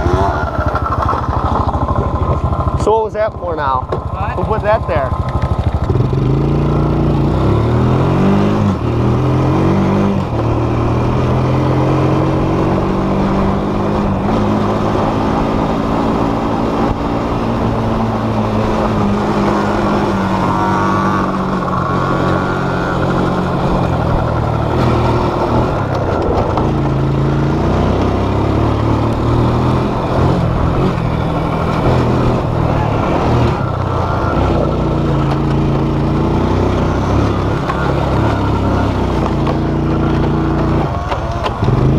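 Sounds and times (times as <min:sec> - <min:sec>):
off-road vehicle engine revving: 0:00.0 - 0:41.9.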